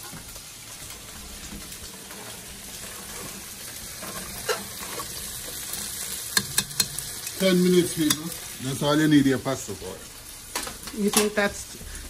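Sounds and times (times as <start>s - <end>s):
food hissing on a stovetop: 0.0s - 12.0s.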